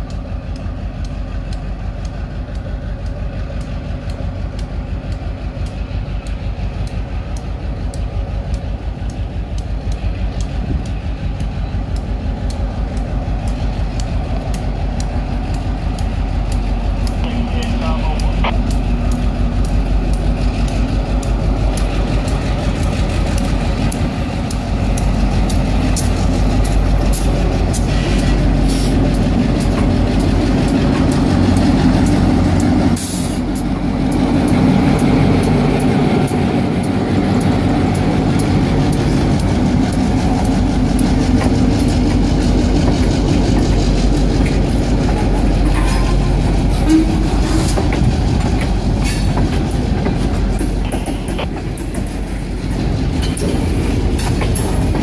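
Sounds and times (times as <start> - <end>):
diesel locomotive engine droning: 0.0 - 55.0
train wheels rolling on rails: 0.0 - 55.0.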